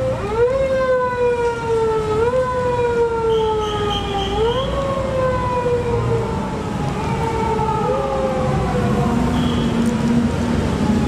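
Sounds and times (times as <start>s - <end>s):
siren wailing: 0.0s - 9.8s.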